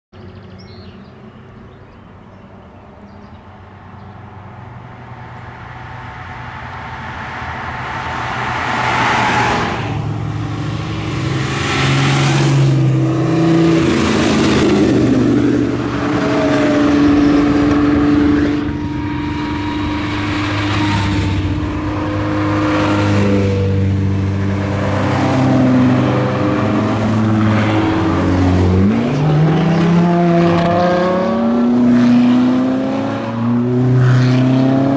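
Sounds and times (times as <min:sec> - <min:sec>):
sports cars driving past: 0:00.2 - 0:34.9.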